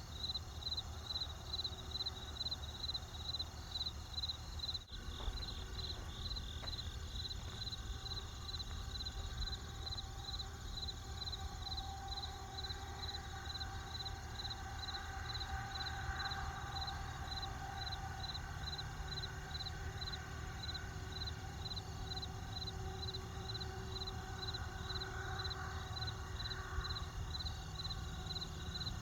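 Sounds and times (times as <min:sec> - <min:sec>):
crickets chirping: 0:00.0 - 0:29.0
low steady rumble: 0:00.0 - 0:29.0.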